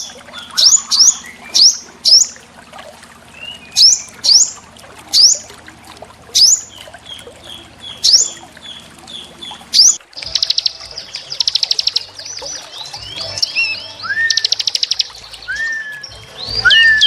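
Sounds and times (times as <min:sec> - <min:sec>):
bird rapid high trills: 0:00.0 - 0:02.4, 0:03.3 - 0:05.5, 0:06.4 - 0:17.0
songbirds calling: 0:00.0 - 0:17.0
trickling water: 0:00.0 - 0:17.0.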